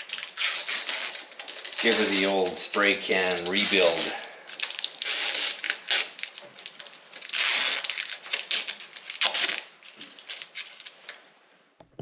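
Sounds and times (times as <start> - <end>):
tape and paper crinkling: 0.0 - 11.3.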